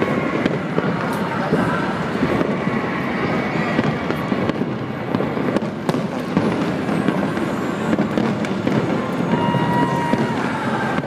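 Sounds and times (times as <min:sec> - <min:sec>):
continuous wash of noise: 0:00.0 - 0:11.0
fireworks bangs: 0:00.0 - 0:11.0.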